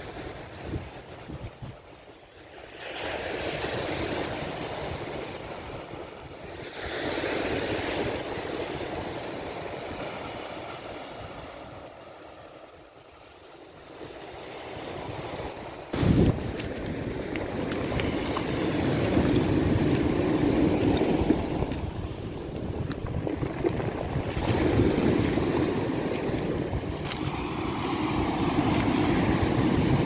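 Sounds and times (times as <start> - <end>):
sea waves breaking on shore: 1.9 - 30.0.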